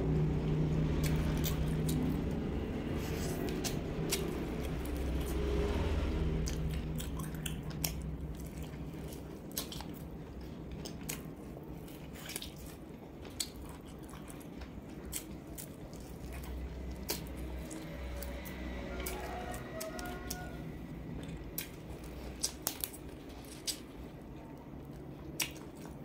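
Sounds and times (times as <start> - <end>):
biting and chewing crunchy food: 0.0 - 26.0
low steady rumble: 0.0 - 26.0.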